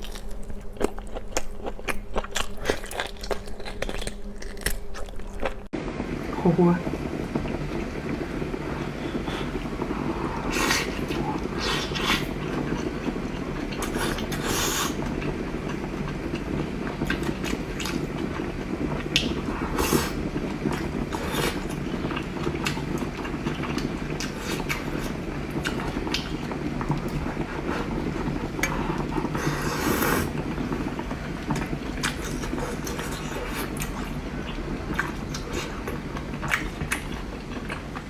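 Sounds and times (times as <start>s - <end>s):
chewing and slurping: 0.0s - 5.7s, 7.4s - 38.0s
steady low hum: 0.0s - 38.0s.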